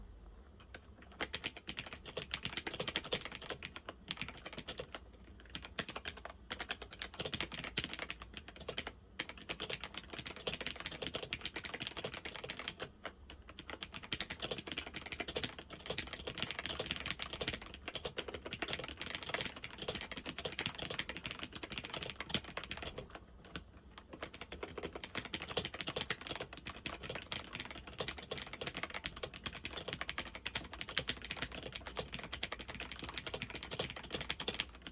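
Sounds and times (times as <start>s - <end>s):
laptop keyboard typing: 0.6s - 34.9s.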